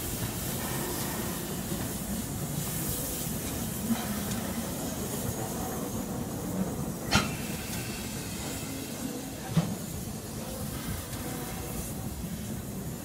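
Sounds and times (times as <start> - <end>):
steam hissing: 0.0 - 13.0
steam locomotive rumbling: 0.0 - 13.0.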